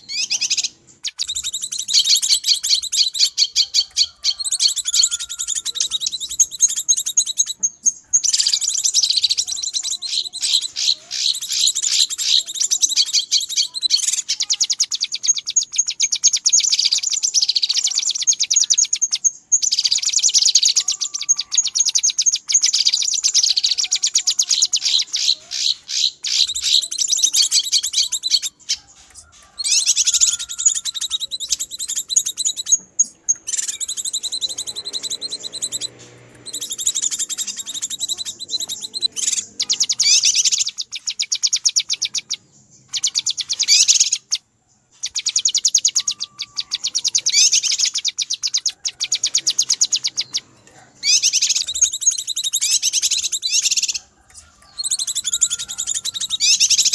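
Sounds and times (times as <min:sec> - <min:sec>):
bird chattering: 0:00.0 - 0:56.9.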